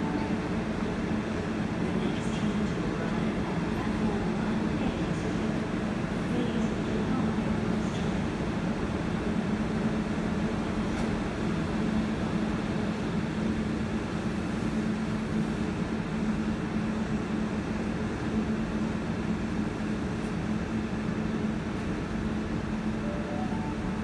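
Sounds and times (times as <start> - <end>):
diesel railcar engine drone: 0.0 - 24.0.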